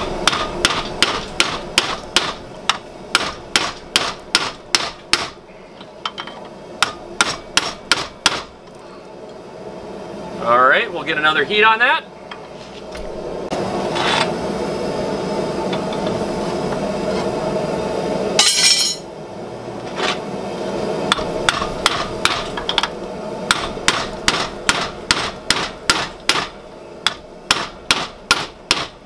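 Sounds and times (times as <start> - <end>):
forge running: 0.0 - 29.0.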